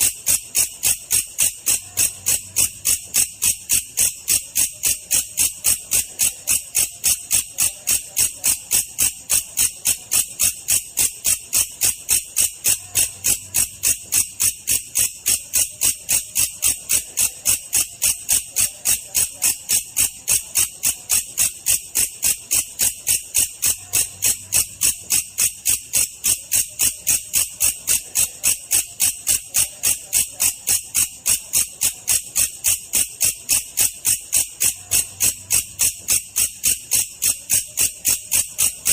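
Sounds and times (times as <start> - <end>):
katydid buzzy pulses: 0.0 - 38.9.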